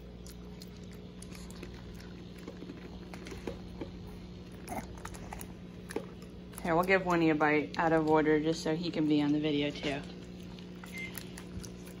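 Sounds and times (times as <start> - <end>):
dog licking and chewing: 0.0 - 12.0.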